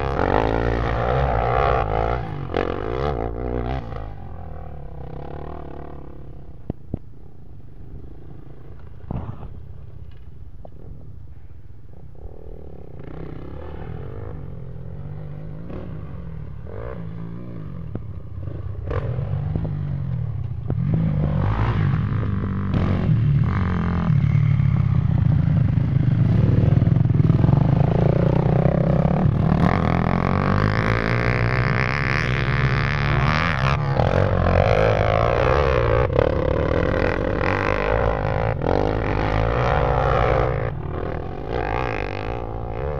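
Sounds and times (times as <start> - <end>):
atv and dirt bike engines revving: 0.0 - 11.1, 11.9 - 42.9.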